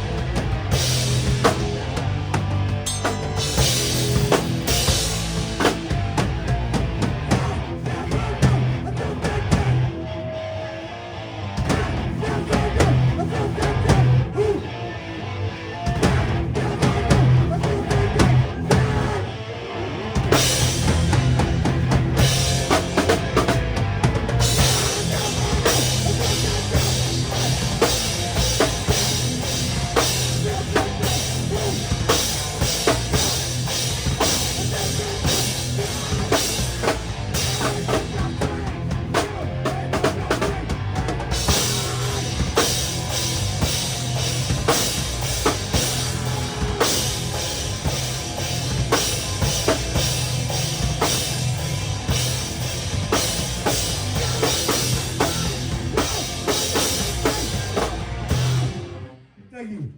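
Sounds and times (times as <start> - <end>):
rock band playing live: 0.0 - 59.2.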